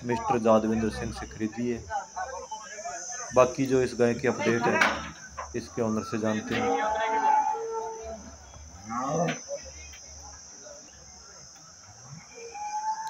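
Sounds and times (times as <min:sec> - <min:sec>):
insects chirring: 0:00.0 - 0:13.0
loud insect call: 0:00.0 - 0:13.0.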